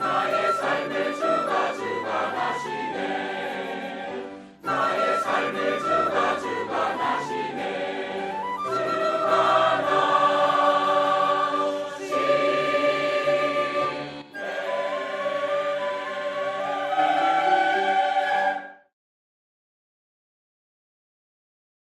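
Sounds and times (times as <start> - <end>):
church choir singing a hymn: 0.0 - 18.8.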